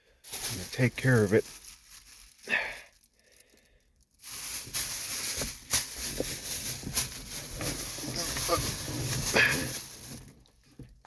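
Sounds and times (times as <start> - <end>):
plastic bag rustling: 0.2 - 11.0.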